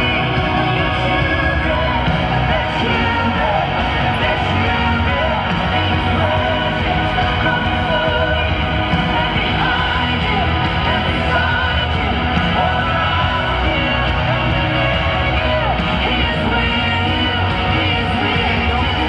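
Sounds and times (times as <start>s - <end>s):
person singing: 0.0s - 19.0s
worship band over speakers: 0.0s - 19.0s.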